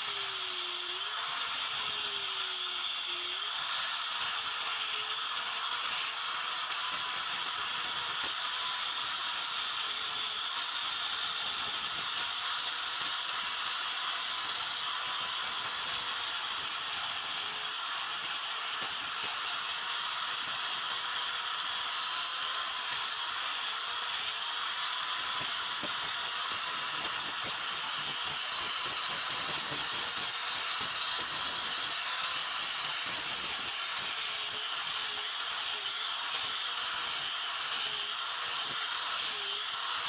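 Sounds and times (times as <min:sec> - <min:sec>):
angle grinder grinding metal: 0:00.0 - 0:40.0.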